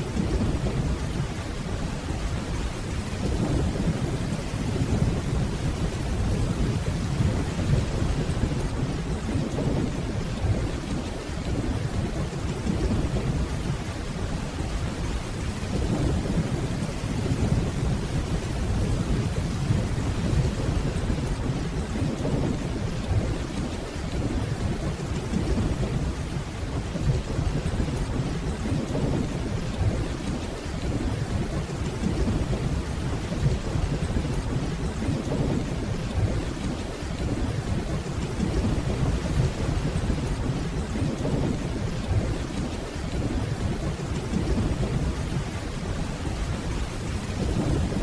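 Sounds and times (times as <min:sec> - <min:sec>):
deep rolling thunder: 0:00.0 - 0:48.0
steady rainfall: 0:00.0 - 0:48.0.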